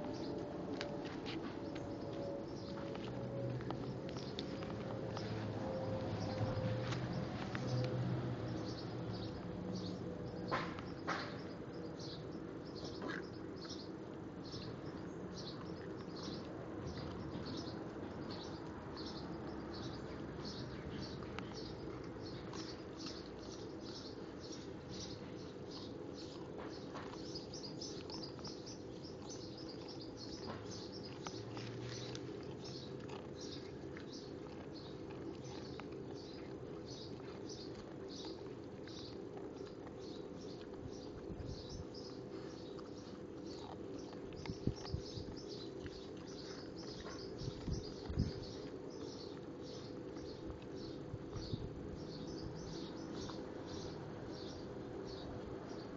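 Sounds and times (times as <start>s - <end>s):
puppy chewing egg crunching: 0.0s - 55.9s
small birds chirping: 0.0s - 55.9s
steady low hum: 0.0s - 55.9s.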